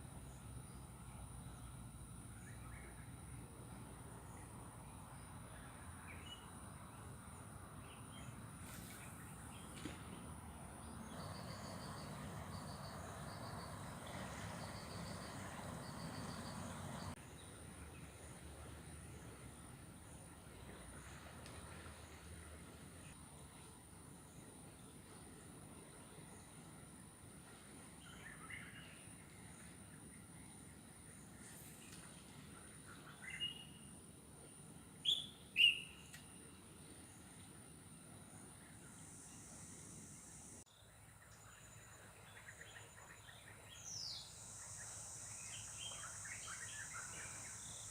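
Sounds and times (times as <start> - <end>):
insects chirping in trills: 0.0 - 47.9.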